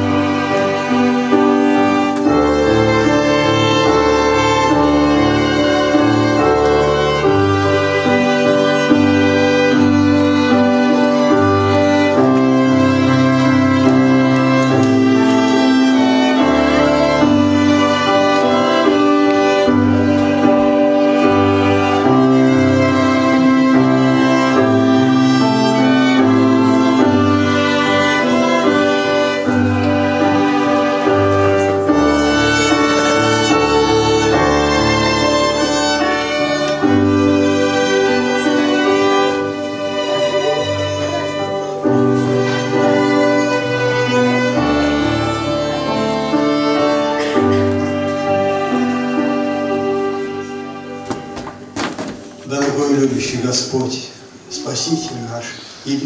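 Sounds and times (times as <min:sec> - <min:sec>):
violins playing slow melody: 0:00.0 - 0:51.7, 0:52.4 - 0:56.0.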